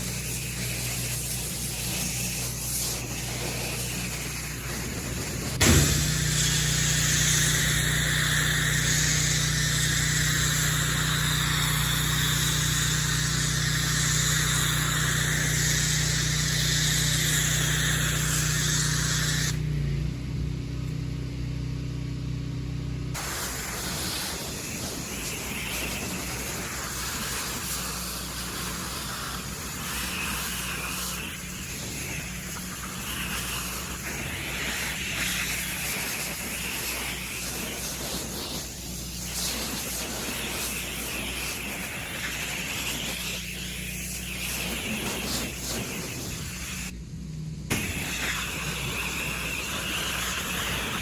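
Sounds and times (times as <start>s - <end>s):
water spray hissing: 0.0s - 19.8s, 23.2s - 47.0s, 47.7s - 51.0s
pressure washer running: 0.0s - 51.0s.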